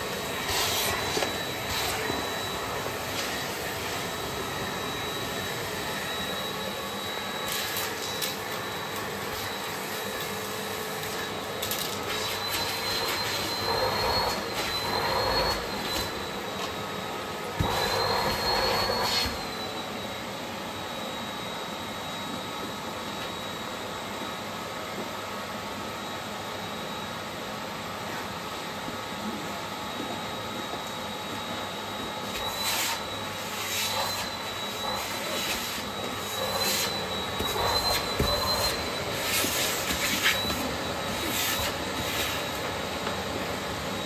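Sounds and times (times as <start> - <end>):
vacuum cleaner motor whine: 0.0 - 44.0.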